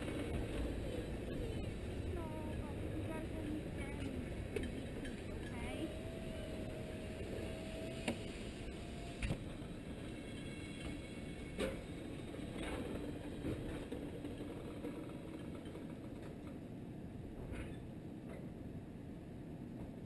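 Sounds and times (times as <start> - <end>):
tank cars rumbling on track: 0.0 - 16.5.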